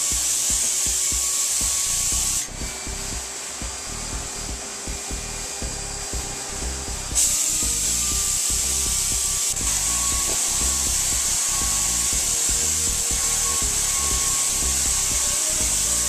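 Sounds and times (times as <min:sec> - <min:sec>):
air spray gun hissing: 0:00.0 - 0:16.0.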